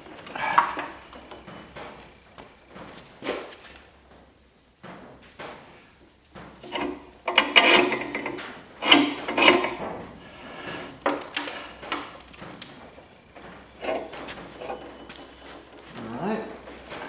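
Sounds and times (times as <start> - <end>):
metal clunking and scraping: 0.0 - 3.8, 6.3 - 17.0.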